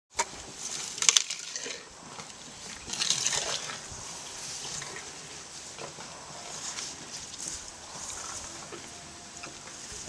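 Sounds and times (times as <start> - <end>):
grass rustling and crackling: 0.1 - 10.0.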